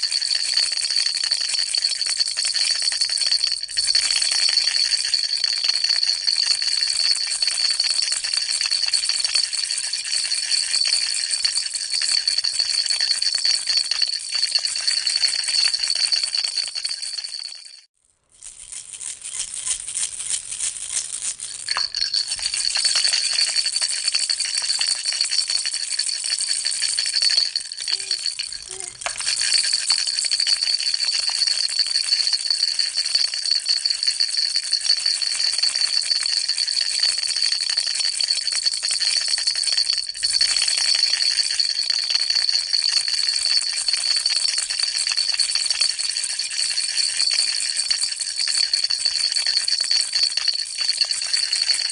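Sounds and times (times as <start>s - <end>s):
baby rattle rattling: 0.0s - 17.4s, 18.3s - 37.5s, 38.1s - 51.9s.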